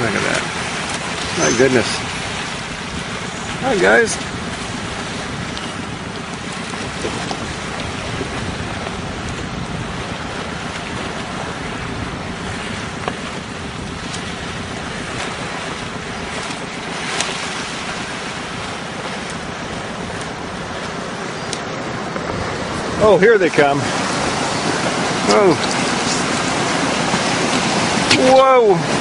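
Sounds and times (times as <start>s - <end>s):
sea water rushing: 0.0s - 29.0s
wind buffeting microphone: 0.0s - 29.0s.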